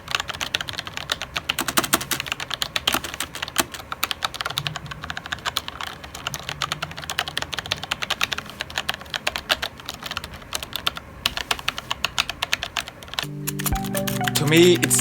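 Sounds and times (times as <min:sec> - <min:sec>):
mechanical keyboard typing clicks: 0:00.1 - 0:15.0.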